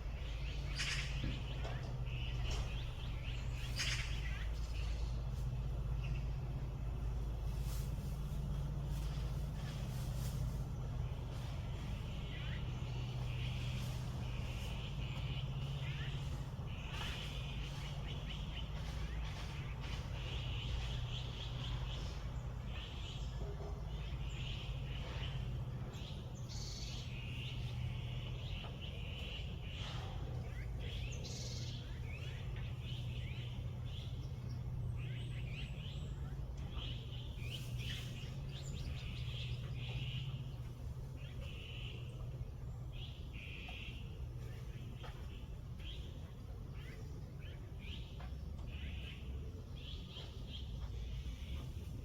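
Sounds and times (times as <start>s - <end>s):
low background hum: 0.0s - 52.0s
songbirds chirping and trilling: 0.0s - 52.0s.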